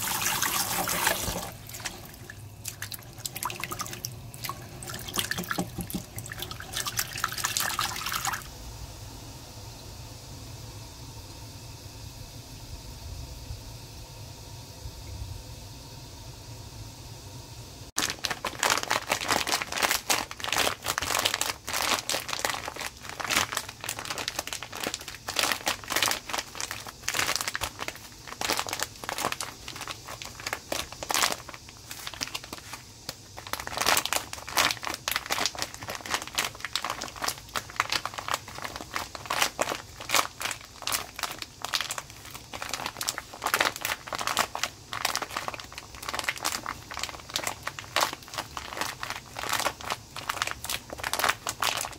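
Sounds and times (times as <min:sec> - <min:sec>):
plastic bag crinkling: 0:00.0 - 0:08.5, 0:18.0 - 0:51.9.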